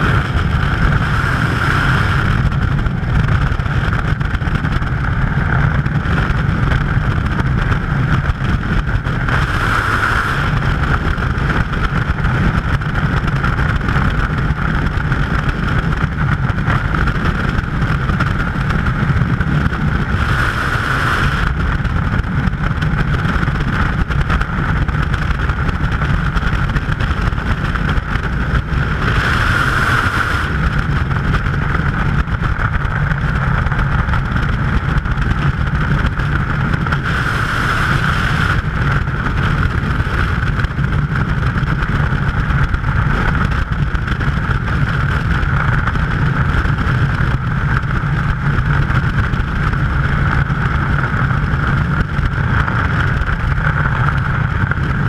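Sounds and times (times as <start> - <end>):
freefall wind rushing: 0.0 - 55.0.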